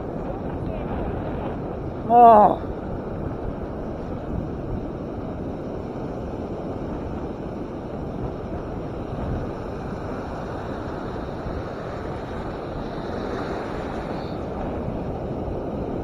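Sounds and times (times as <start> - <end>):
ocean surf breaking: 0.0 - 16.0
wind on microphone: 0.0 - 16.0.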